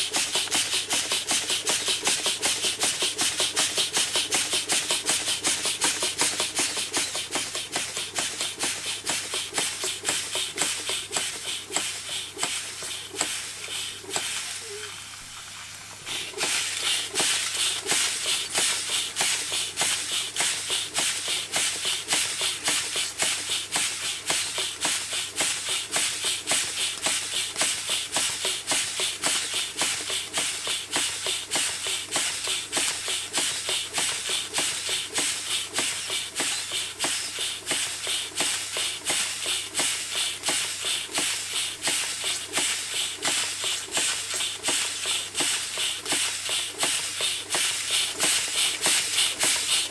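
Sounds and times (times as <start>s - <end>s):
toy steam engine chuffing: 0.0s - 15.0s, 16.1s - 49.9s.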